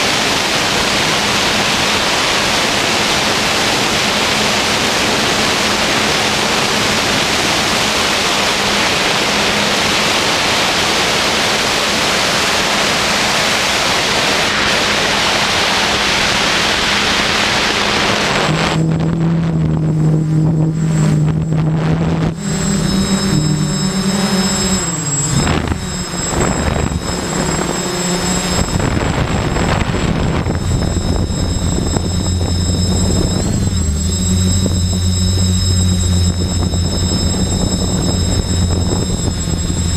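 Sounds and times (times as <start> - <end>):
quadcopter motor whine: 0.0 - 39.9.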